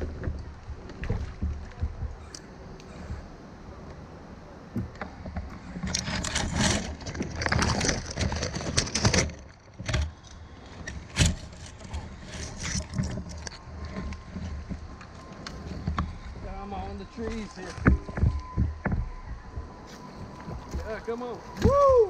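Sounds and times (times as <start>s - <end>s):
branches rustling and scraping: 0.0s - 22.0s.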